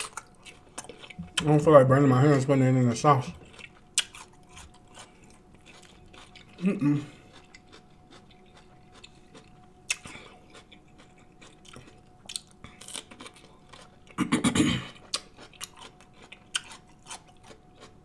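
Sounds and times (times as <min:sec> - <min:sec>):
man chewing with wet smacking: 0:00.0 - 0:01.7, 0:03.2 - 0:14.2, 0:14.9 - 0:18.0.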